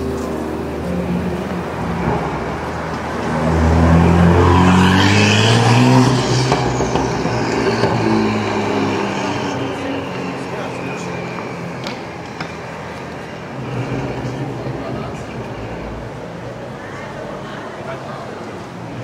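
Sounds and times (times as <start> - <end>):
car engine passing: 0.0 - 19.0.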